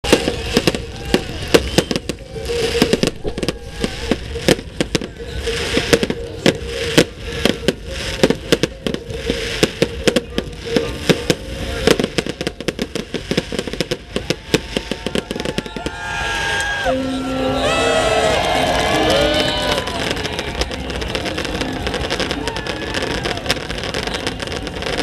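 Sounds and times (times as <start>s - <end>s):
fireworks crackling: 0.0s - 25.0s.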